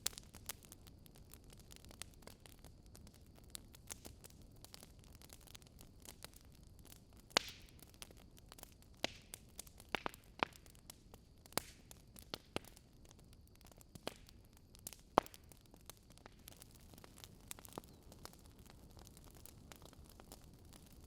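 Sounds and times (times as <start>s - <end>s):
burning logs crackling: 0.0s - 21.0s.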